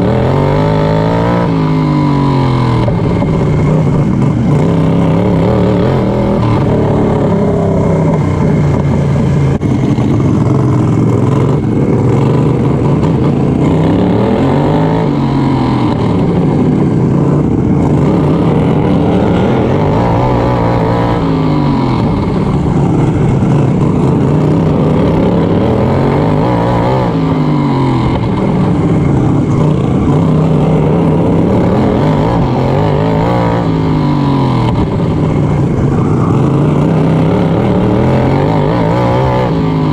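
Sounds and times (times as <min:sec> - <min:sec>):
lawn mower engine at high revs: 0:00.0 - 0:39.9.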